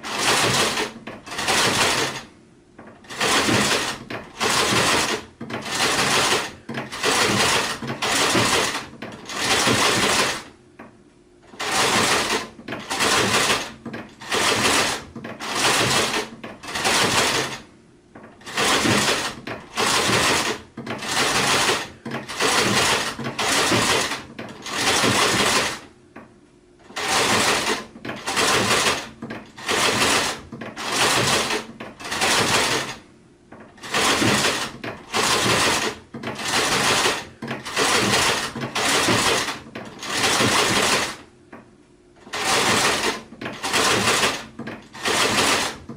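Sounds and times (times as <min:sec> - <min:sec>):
sewing machine stitching: 0:00.0 - 0:10.6, 0:11.4 - 0:25.9, 0:26.8 - 0:41.3, 0:42.2 - 0:45.9.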